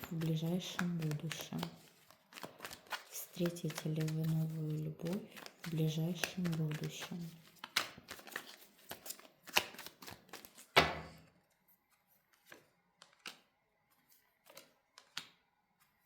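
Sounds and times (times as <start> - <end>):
cards shuffled on a table: 0.0 - 16.0.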